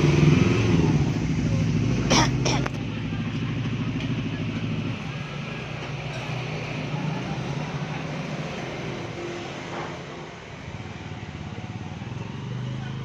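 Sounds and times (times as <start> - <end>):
hum of traffic: 0.0 - 13.0
vehicle engine running close by: 0.0 - 13.0.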